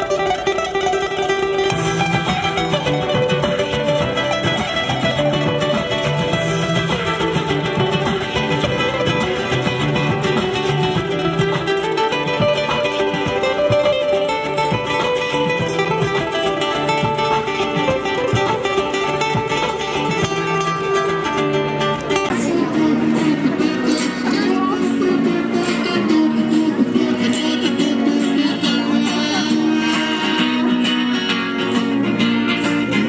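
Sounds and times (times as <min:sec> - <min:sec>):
fingerpicked acoustic guitar: 0:00.0 - 0:33.0.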